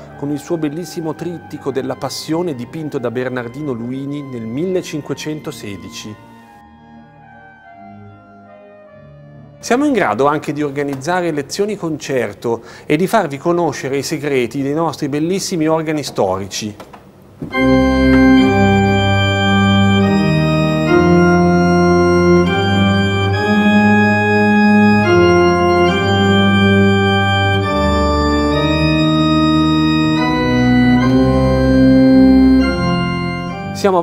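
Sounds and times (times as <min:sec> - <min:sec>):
pipe organ chords: 0:00.0 - 0:12.0, 0:17.2 - 0:34.0.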